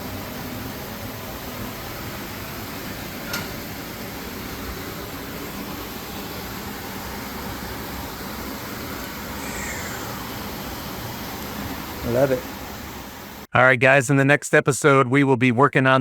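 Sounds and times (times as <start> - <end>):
fan-like hiss: 0.0 - 13.5.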